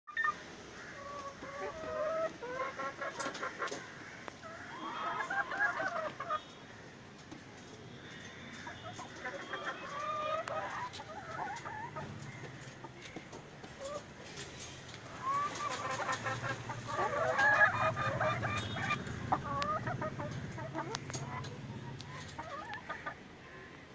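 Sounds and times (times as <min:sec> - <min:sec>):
hens clucking and cackling: 0:00.1 - 0:23.9.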